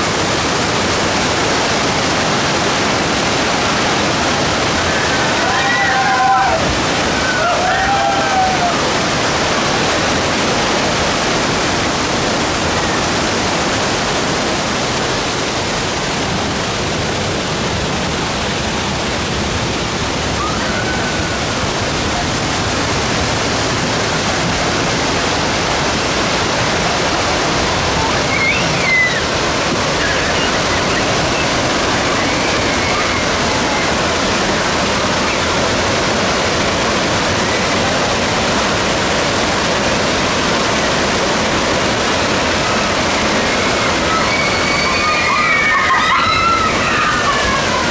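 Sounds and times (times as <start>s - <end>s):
water pouring down waterfalls: 0.0s - 47.9s.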